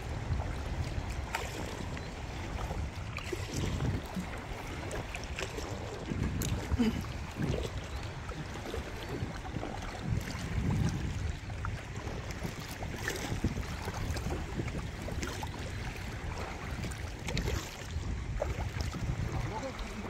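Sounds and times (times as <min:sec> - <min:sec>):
low wind rumble on microphone: 0:00.0 - 0:20.0
ticks of water: 0:00.0 - 0:20.0
water lapping around a kayak: 0:00.0 - 0:20.0.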